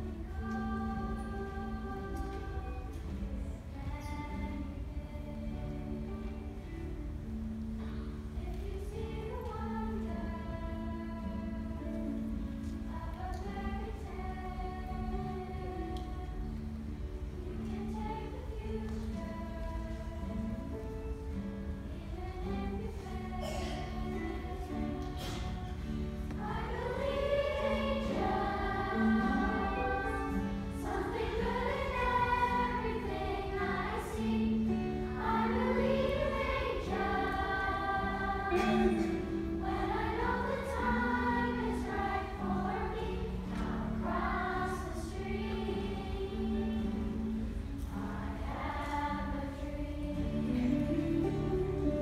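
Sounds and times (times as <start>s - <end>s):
children's choir singing: 0.0s - 52.0s
guitar accompaniment: 0.0s - 52.0s.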